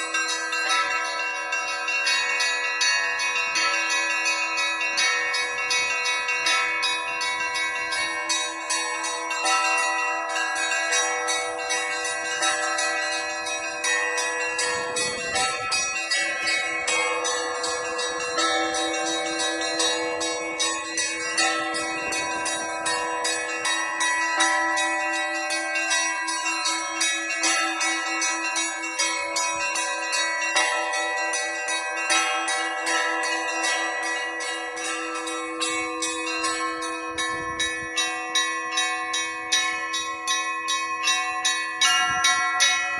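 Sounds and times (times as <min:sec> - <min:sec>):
large bell humming: 0:00.0 - 0:42.9
small church bells ringing: 0:00.0 - 0:42.9.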